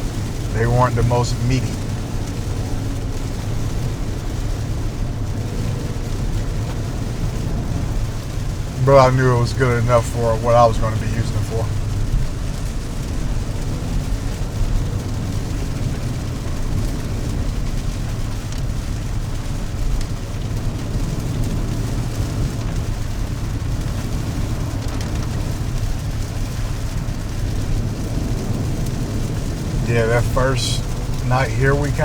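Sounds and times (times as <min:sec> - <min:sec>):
vehicle engine and tyre rumble: 0:00.0 - 0:32.0.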